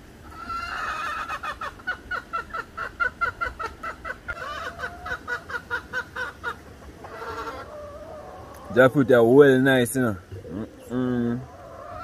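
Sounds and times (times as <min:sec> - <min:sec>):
hen cackling: 0:00.2 - 0:12.0.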